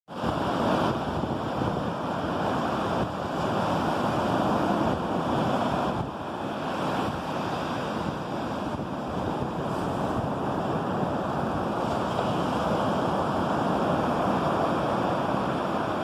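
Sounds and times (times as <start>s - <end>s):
ocean surf breaking: 0.1s - 16.0s
wind on microphone: 0.1s - 16.0s.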